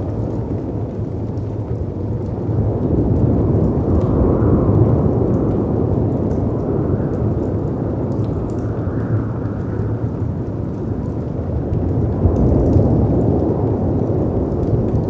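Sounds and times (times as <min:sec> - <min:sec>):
faint fireplace crackles: 0:00.0 - 0:15.0.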